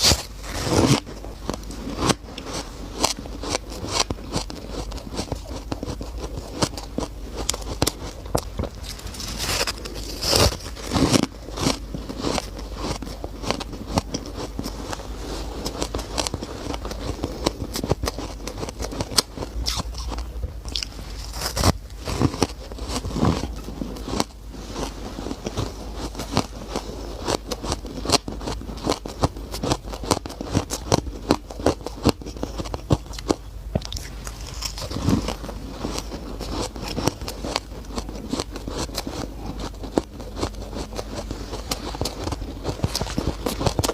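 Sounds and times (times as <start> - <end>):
chewing shaved ice: 0.0 - 43.9.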